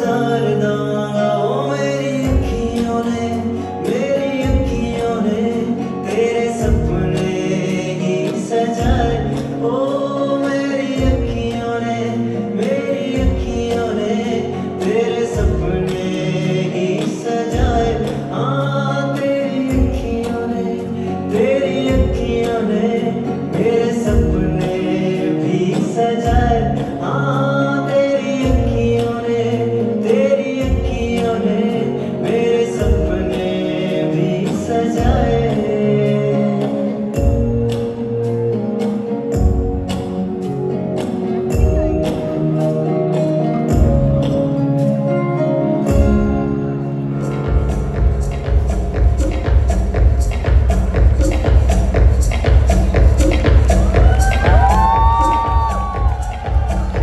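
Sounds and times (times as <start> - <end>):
backing track with deep bass: 0.0 - 57.0
man singing: 0.0 - 57.0.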